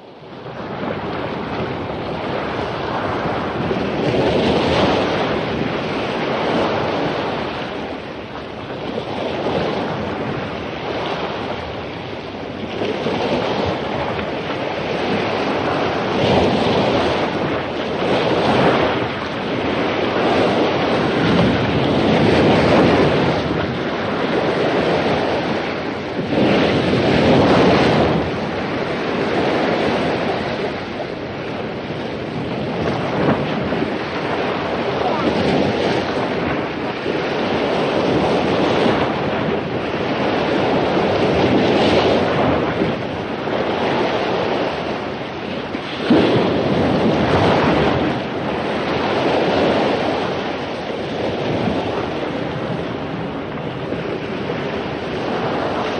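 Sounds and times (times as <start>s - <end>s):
surf breaking on beach: 0.0s - 55.9s
wind buffeting microphone: 0.0s - 55.9s.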